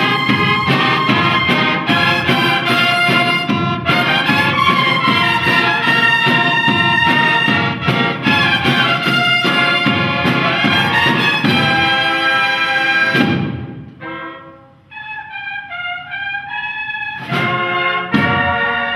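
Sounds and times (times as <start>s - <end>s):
steady drum beat: 0.0s - 14.0s, 17.3s - 18.9s
brass cornets playing melody: 0.0s - 18.9s.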